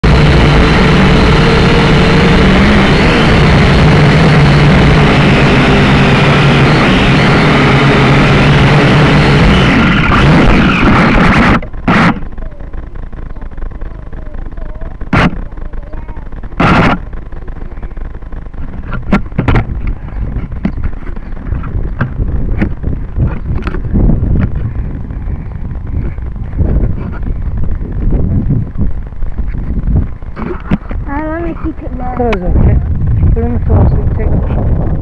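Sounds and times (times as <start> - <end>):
short sharp bursts: 0.0 - 28.0
drone motors buzzing: 0.0 - 35.0.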